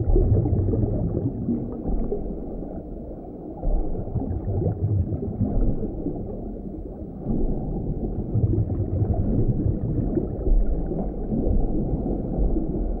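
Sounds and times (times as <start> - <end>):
underwater rumbling and gurgling: 0.0 - 13.0.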